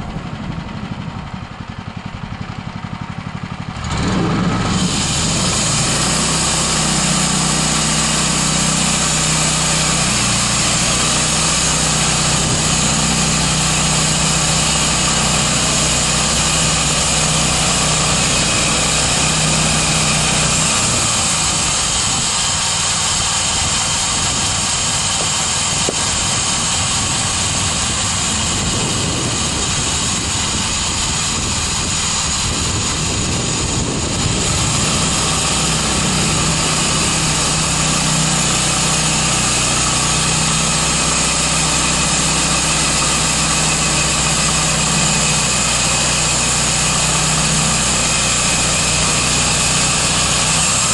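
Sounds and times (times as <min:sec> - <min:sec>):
sawmill engine running: 0:00.0 - 0:50.9.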